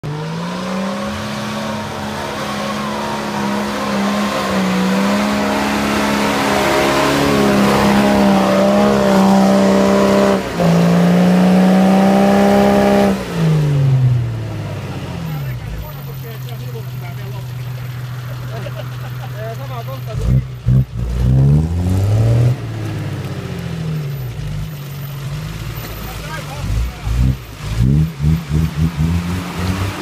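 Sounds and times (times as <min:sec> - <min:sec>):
truck engine revving high: 0:00.0 - 0:30.0.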